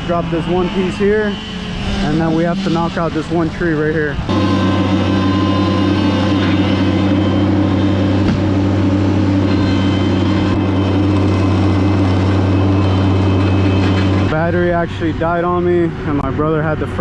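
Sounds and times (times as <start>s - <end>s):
heavy engine humming: 0.0s - 17.0s.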